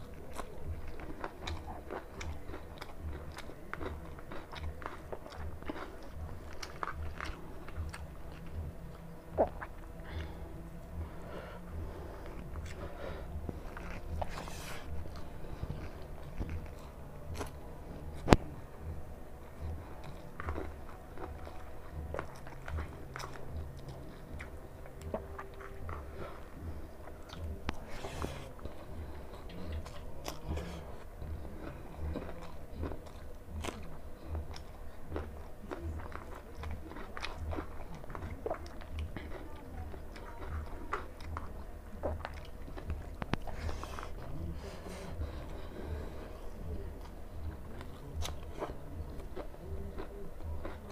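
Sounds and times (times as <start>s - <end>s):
person chewing food: 0.0s - 50.9s.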